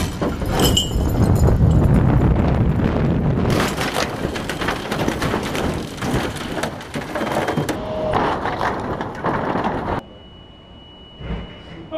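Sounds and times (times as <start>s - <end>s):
metal crunching and debris rattling: 0.0s - 10.0s.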